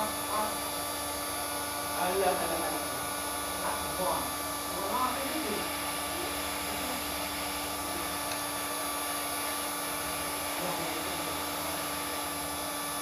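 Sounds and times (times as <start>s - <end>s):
heat gun blowing air: 0.0s - 13.0s.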